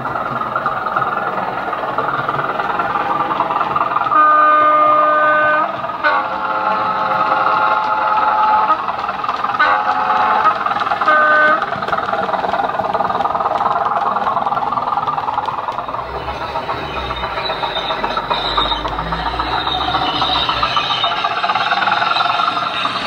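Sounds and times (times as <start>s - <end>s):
diesel engine sound through speaker: 0.0s - 23.0s.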